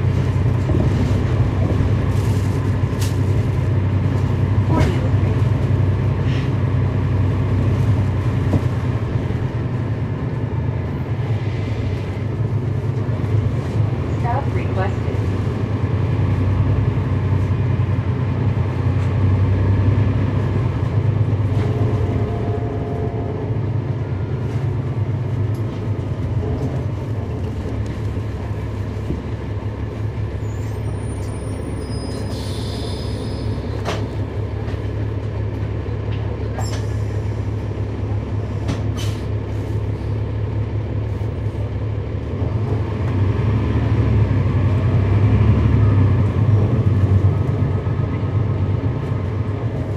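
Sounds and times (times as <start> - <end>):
bus engine low drone: 0.0 - 49.9.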